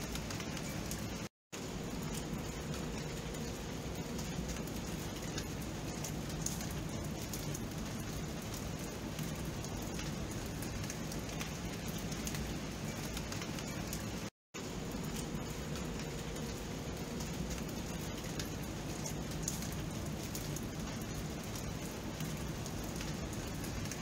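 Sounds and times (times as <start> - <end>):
raindrops ticking on a surface: 0.0 - 24.0
steady rain hiss: 0.0 - 24.0.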